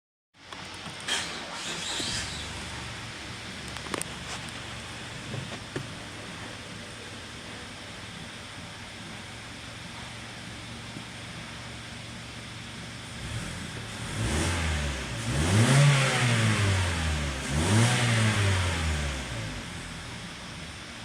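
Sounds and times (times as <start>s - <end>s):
car engine idling and revving: 0.4s - 21.0s.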